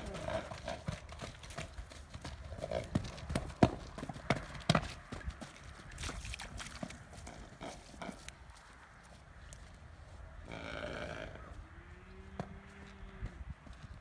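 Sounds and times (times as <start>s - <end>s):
horse hooves on hard ground: 0.0s - 10.6s, 11.4s - 14.0s.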